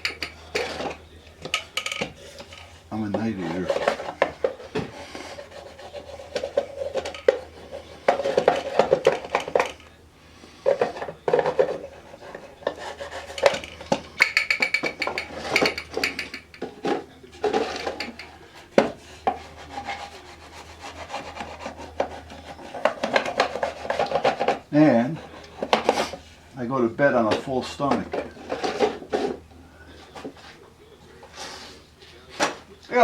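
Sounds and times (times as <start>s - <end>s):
small objects rubbing and clattering: 0.0s - 26.4s.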